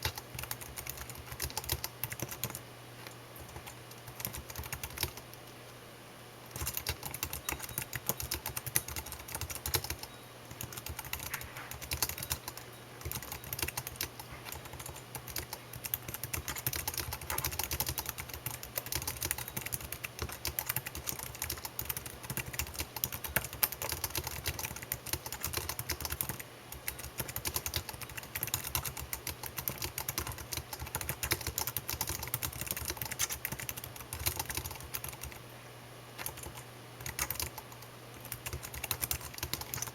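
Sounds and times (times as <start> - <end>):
fast typing on computer keyboard: 0.0 - 2.6, 3.4 - 5.3, 6.5 - 35.4, 36.2 - 39.9.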